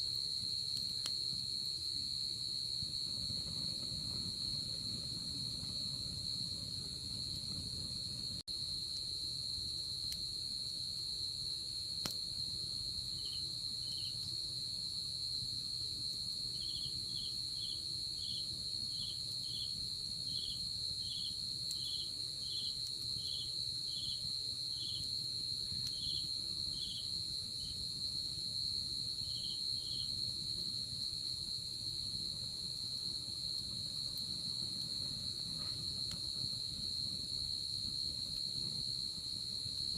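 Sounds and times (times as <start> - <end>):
campfire crackling: 0.0 - 14.8, 18.6 - 28.4, 29.1 - 39.9
insect chirping: 0.0 - 39.9.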